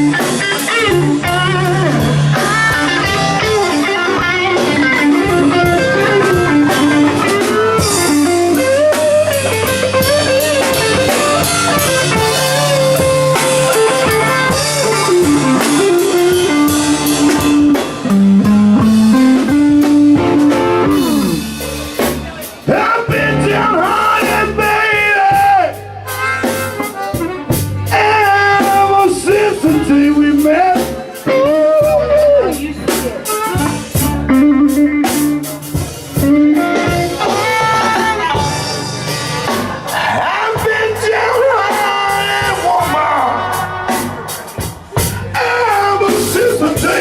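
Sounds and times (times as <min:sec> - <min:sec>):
bass: 0:00.0 - 0:47.0
drums: 0:00.0 - 0:47.0
electric guitar lead lines: 0:00.0 - 0:47.0.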